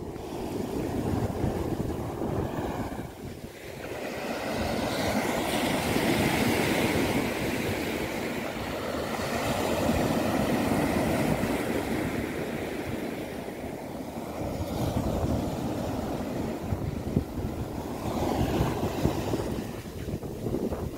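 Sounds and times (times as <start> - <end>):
small waves washing up beach: 0.0 - 20.9
wind rumbling on microphone: 0.0 - 20.9.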